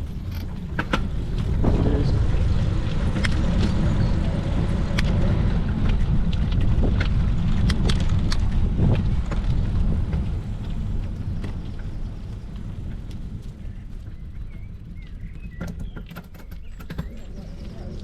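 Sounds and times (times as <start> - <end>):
bicycle clicks and rattles: 0.0 - 18.0
wind buffeting microphone: 0.0 - 18.0.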